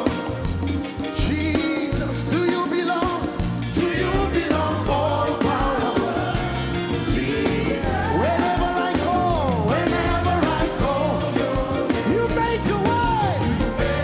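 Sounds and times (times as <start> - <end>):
band with bass and drums: 0.0 - 14.0
lead singer gliding vocals: 0.0 - 14.0.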